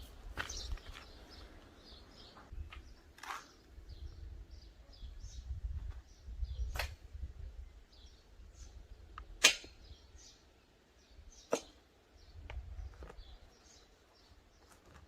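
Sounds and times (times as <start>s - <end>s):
faint bird chirps: 0.0s - 14.8s.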